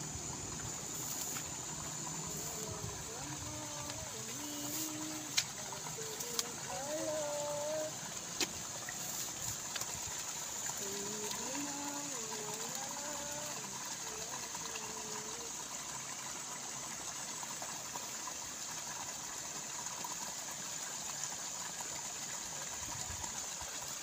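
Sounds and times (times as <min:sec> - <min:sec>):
water rushing through a ditch: 0:00.0 - 0:24.0.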